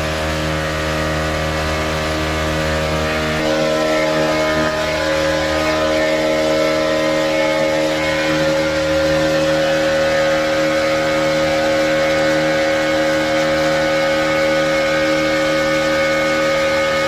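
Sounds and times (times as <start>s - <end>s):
boat motor droning: 0.0s - 17.0s
water rushing: 0.0s - 17.0s.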